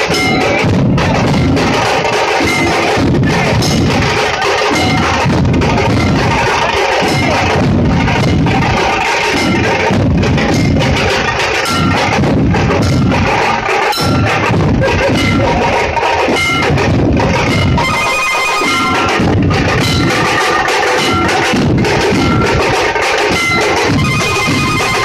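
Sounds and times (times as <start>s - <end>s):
barrel drums beaten together: 0.0s - 25.0s.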